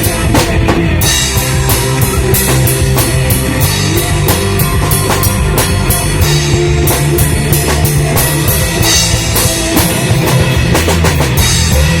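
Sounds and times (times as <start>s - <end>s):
drum kit beats: 0.0s - 12.0s
electric guitar: 0.0s - 12.0s
loud rock music: 0.0s - 12.0s.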